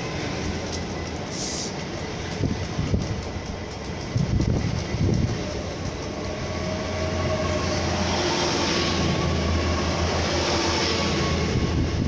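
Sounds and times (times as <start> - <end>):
train diesel engine drone: 0.0 - 12.0
train wheels rolling on rails: 0.0 - 12.0.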